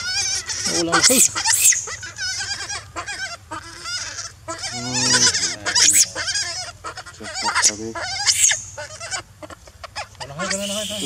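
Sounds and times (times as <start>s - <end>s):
infant monkey screaming: 0.0s - 11.0s.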